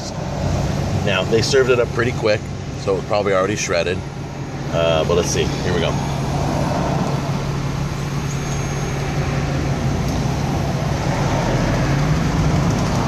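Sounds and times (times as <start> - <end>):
vehicle traffic rushing: 0.0 - 13.0.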